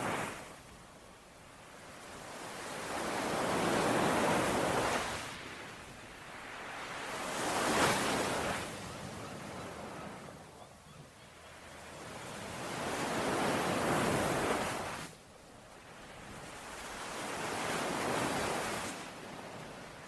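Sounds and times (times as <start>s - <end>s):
ocean waves breaking on shore: 0.0s - 20.0s.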